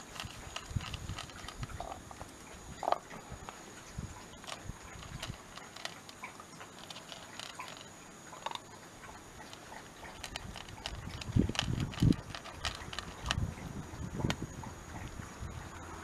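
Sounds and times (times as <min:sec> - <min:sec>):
dog crunching kibble: 0:00.0 - 0:03.6, 0:04.2 - 0:13.5.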